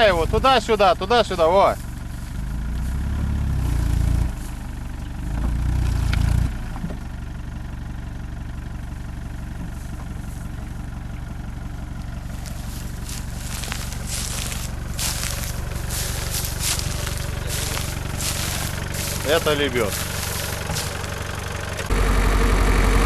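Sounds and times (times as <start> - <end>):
suv engine revving and idling: 0.0 - 23.0.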